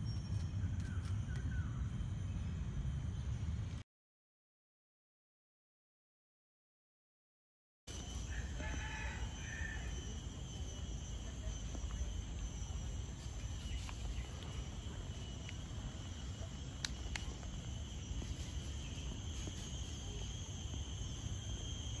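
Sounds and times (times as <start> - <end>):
insect drone: 0.0 - 3.8, 7.9 - 22.0.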